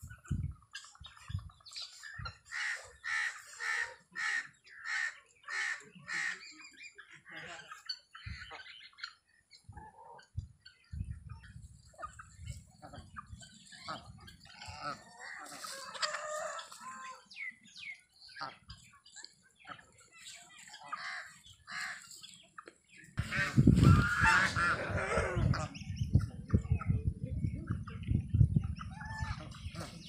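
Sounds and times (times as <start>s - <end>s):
chickens clucking: 0.0s - 30.0s
ducks calling: 0.2s - 26.0s.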